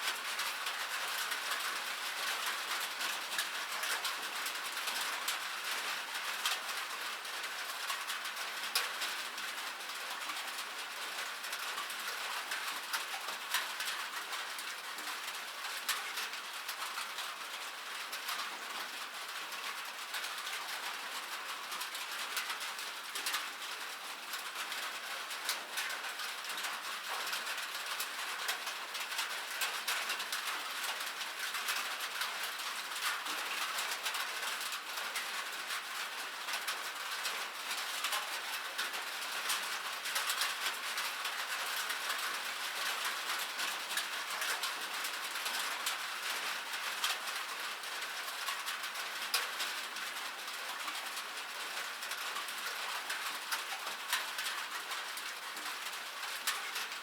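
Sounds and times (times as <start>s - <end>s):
rain on metal surface: 0.0s - 57.0s.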